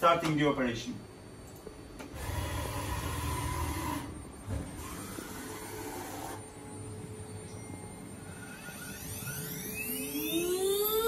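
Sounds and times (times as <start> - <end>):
machine humming with hiss: 2.0 - 11.0.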